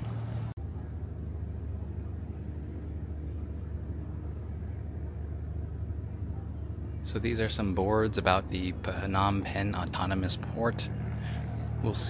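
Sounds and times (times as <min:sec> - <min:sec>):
faint even hum: 0:00.0 - 0:12.0
vehicle engine rumble: 0:00.0 - 0:12.0.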